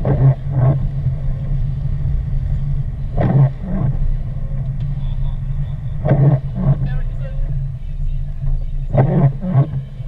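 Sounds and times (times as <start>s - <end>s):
car driving on wet road: 0.0s - 10.0s
windshield wipers swishing: 0.0s - 10.0s.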